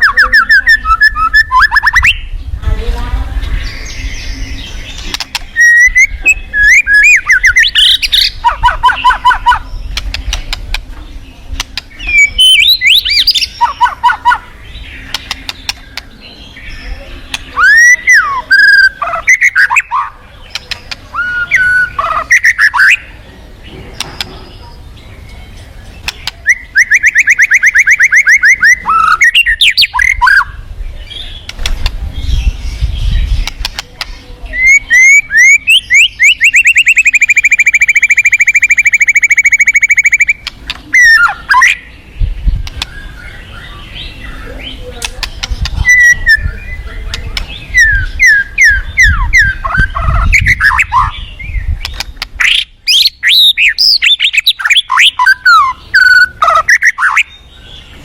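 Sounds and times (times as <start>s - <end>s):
bird singing trills and whistles: 0.0s - 2.6s, 3.4s - 58.0s.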